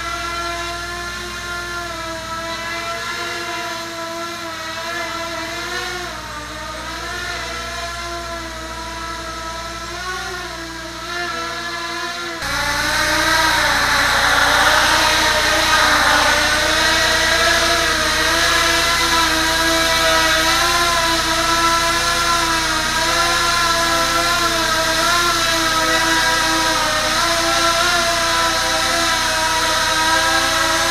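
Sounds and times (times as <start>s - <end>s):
quadcopter motors whining: 0.0s - 30.9s.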